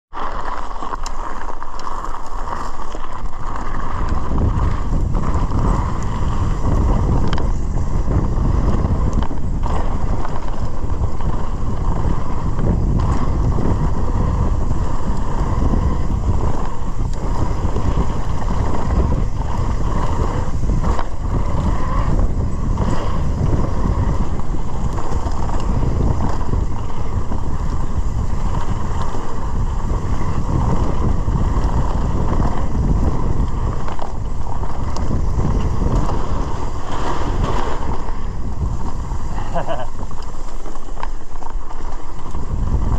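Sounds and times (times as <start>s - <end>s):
bike knocks and rattles: 0.1s - 42.9s
tyres rolling on gravel: 0.1s - 42.9s
wind rushing over microphone: 0.1s - 42.9s.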